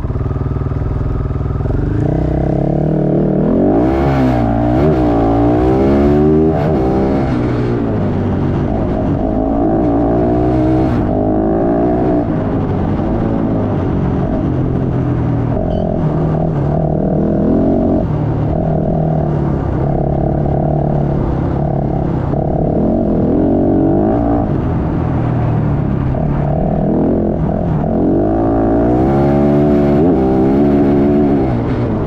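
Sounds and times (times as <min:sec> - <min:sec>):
motorcycle engine revving: 0:00.0 - 0:32.0
wind and road rush: 0:00.0 - 0:32.0.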